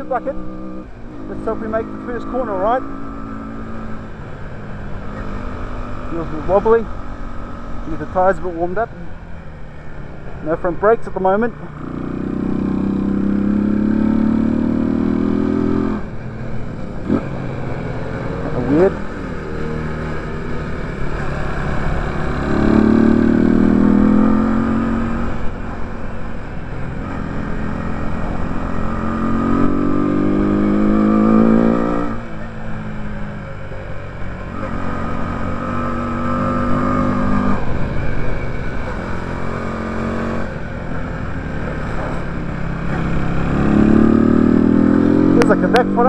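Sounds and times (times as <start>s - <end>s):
go-kart engine revving: 0.0s - 4.0s, 10.5s - 33.1s, 34.4s - 46.0s.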